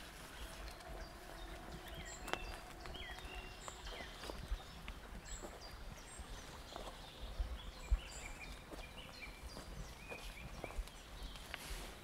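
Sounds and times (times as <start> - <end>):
footsteps on forest path: 0.0 - 12.0
small birds chirping: 0.0 - 12.0.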